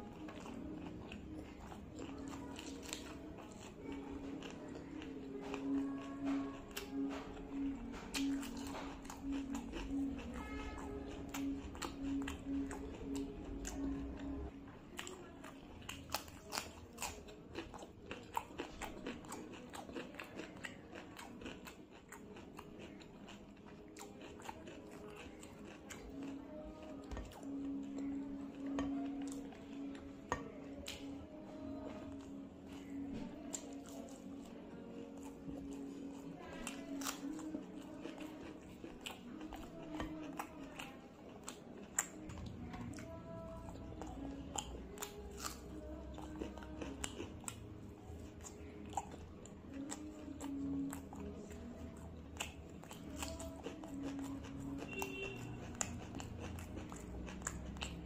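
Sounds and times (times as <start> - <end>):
crunching raw cucumber: 0.0 - 14.3, 14.9 - 31.1, 31.8 - 51.8, 52.4 - 58.0
chewing: 0.0 - 58.0.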